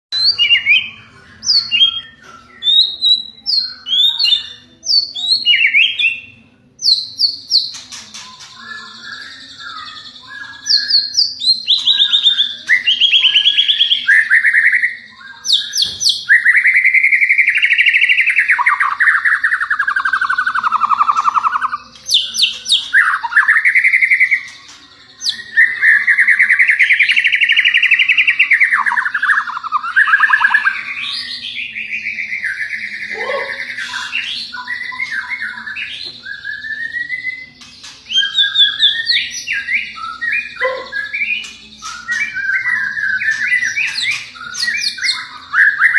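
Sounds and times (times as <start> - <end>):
bird singing trilled whistles: 0.1 - 45.9.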